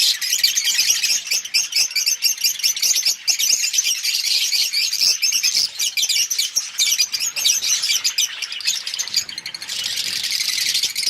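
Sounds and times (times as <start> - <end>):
lovebirds chattering: 0.0 - 11.0.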